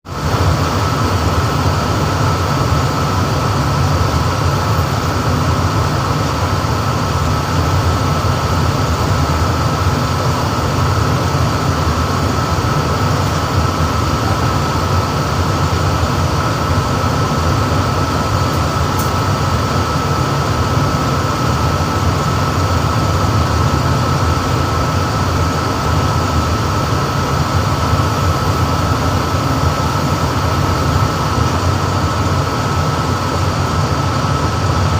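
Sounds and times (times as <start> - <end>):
machinery whine and rumble: 0.1 - 34.9.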